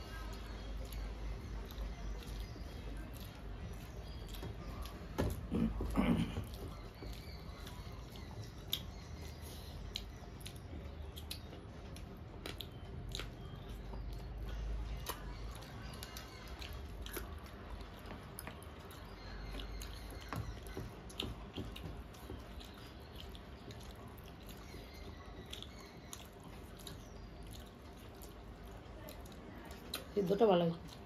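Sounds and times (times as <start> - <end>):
chewing: 0.0 - 31.0
fingers mixing food on metal plates: 0.0 - 31.0.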